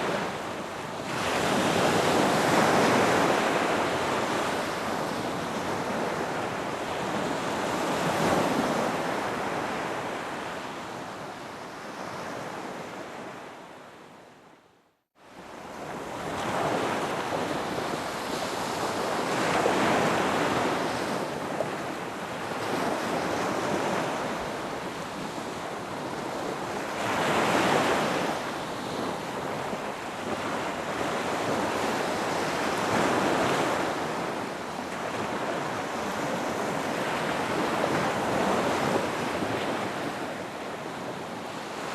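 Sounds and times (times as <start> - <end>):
ocean waves washing onto beach: 0.0 - 13.5, 15.3 - 41.9.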